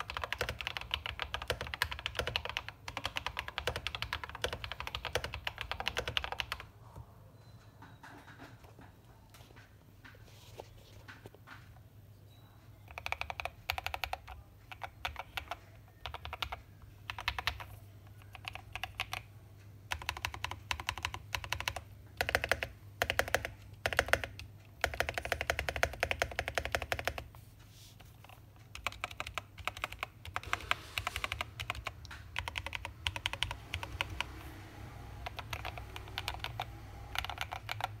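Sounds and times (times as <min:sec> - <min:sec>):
mechanical keyboard typing: 0:00.0 - 0:06.7, 0:12.8 - 0:27.3, 0:28.0 - 0:38.0.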